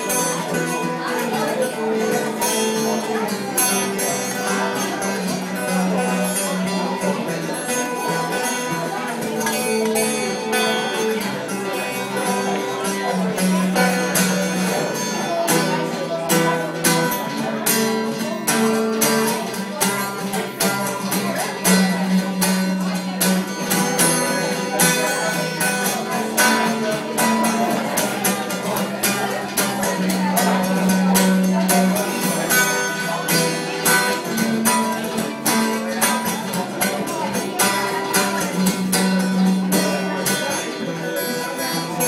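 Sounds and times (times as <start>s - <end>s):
fingerpicked acoustic guitar blues: 0.0s - 42.0s.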